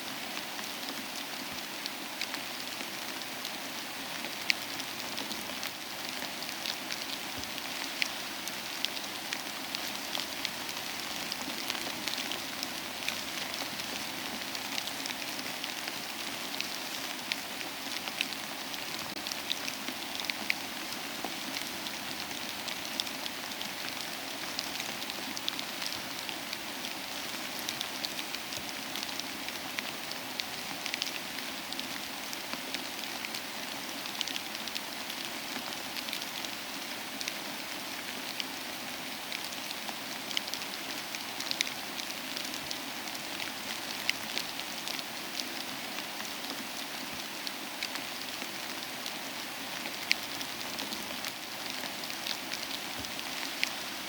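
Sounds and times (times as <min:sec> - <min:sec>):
soft steady rain: 0:00.0 - 0:54.0.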